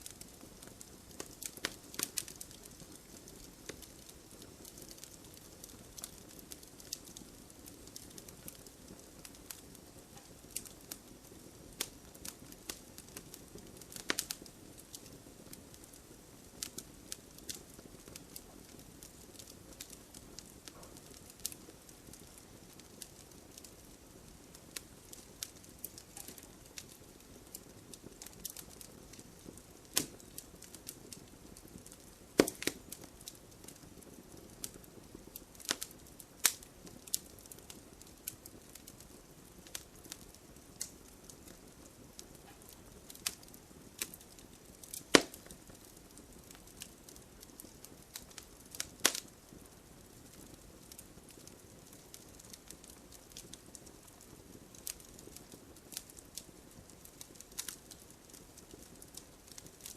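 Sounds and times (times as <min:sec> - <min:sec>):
fire hissing: 0:00.0 - 0:52.2
wood fire crackling and popping: 0:00.0 - 0:59.9.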